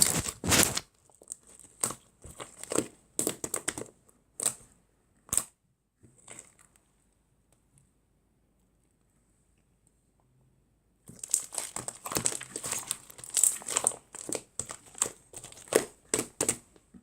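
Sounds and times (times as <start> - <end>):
crinkling and crackling: 0.0 - 7.8, 11.1 - 17.0.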